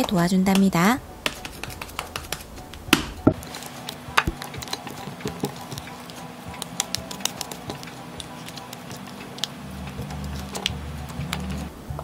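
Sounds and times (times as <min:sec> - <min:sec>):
spatula slapping sticky dough: 0:00.0 - 0:11.7
soft background music: 0:00.0 - 0:12.0.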